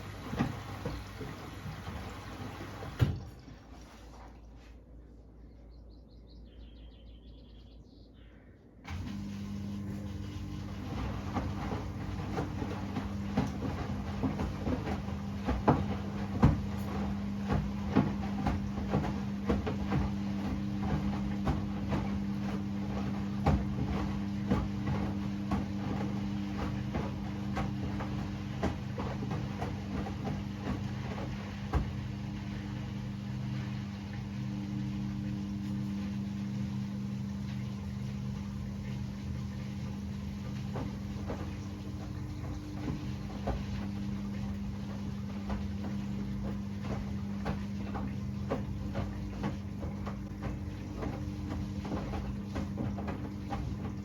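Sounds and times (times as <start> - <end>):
washing machine clicks and knocks: 0.0 - 3.5, 10.6 - 54.0
washing machine motor hum: 0.0 - 5.5, 8.8 - 54.0.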